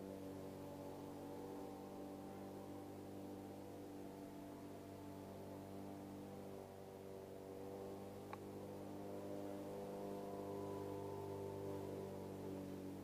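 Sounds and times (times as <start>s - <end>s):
faint motor hum: 0.0s - 13.0s.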